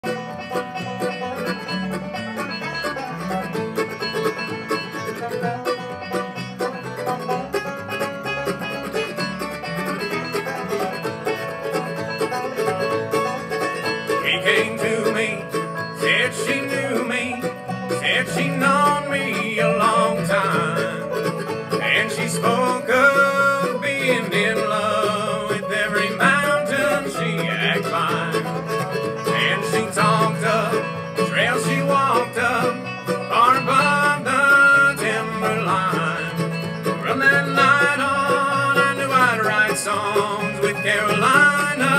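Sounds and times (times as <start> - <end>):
acoustic guitar: 0.0 - 41.9
banjo rolls: 0.0 - 41.9
bluegrass band playing: 0.0 - 41.9
upright bass: 0.0 - 41.9.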